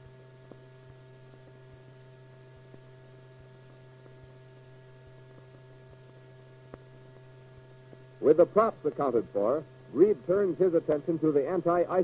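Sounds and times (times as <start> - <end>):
film soundtrack hum and hiss: 0.0 - 12.0.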